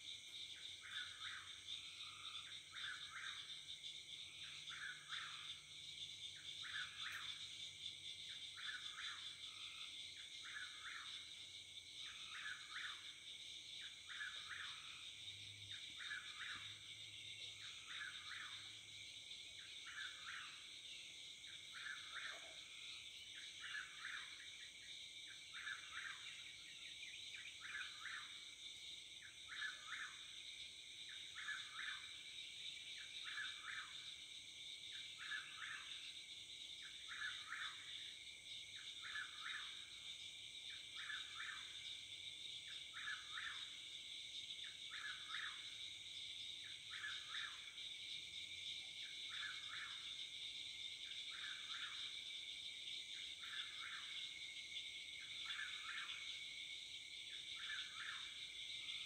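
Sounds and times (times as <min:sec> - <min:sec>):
crickets and insects chirping: 0:00.0 - 0:59.0.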